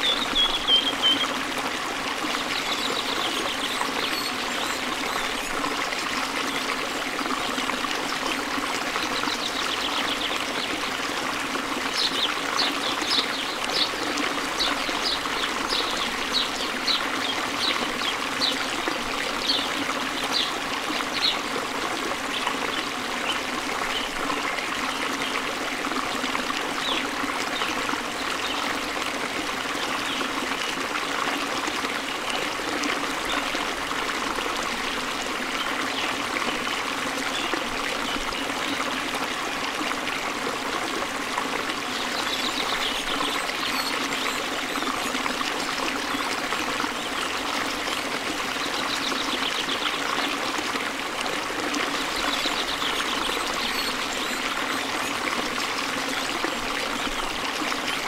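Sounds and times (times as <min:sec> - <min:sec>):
rushing stream water: 0:00.0 - 0:58.0.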